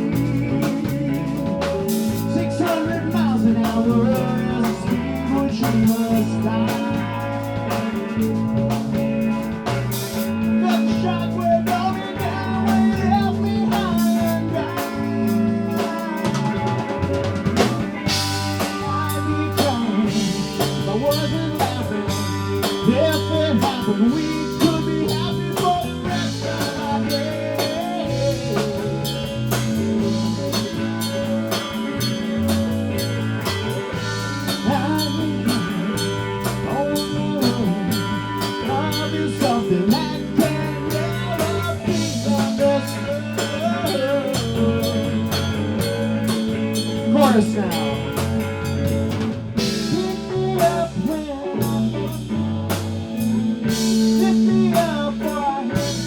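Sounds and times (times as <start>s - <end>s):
bass line: 0.0s - 56.0s
drum kit beat: 0.0s - 56.0s
guitar lines: 0.0s - 56.0s.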